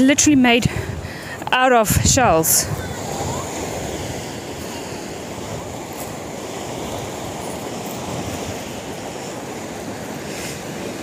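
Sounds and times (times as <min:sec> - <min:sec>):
sea surf washing onto rocks: 0:00.4 - 0:11.0.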